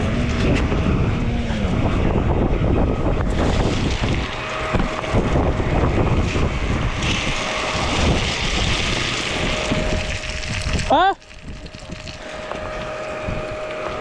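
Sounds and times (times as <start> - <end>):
dirt bike engine running: 0.0 - 14.0
wind buffeting microphone: 0.0 - 14.0.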